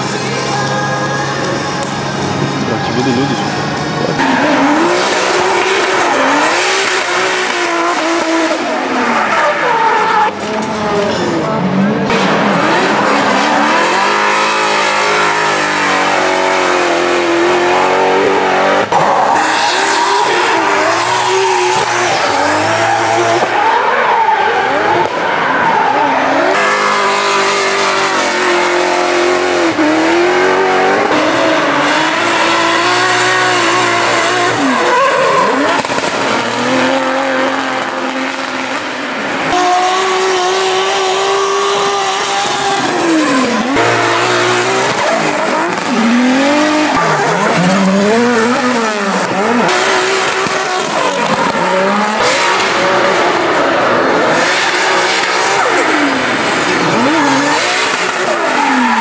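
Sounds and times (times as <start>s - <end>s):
car engines revving: 0.0s - 59.0s
tyres squealing and skidding: 0.0s - 59.0s.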